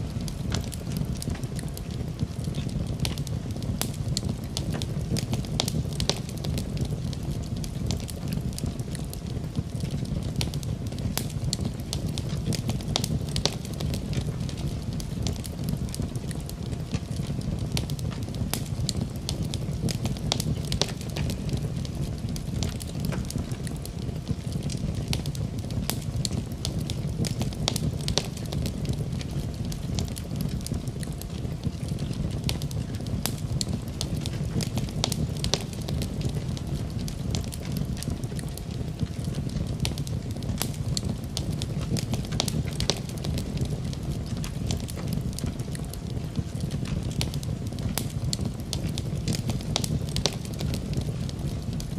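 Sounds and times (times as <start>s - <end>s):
fire crackling and popping: 0.0s - 51.9s
fire flames rumbling: 0.0s - 51.9s.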